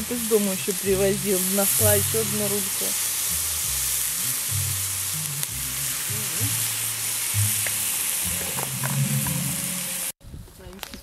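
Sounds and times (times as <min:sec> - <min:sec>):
glaze hissing on hot coals: 0:00.0 - 0:10.2
meat sizzling on grill: 0:00.0 - 0:10.2.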